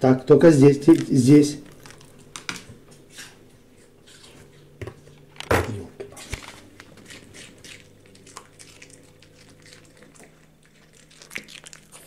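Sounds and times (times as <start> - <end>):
dog chewing crunchy food: 0.4 - 12.0.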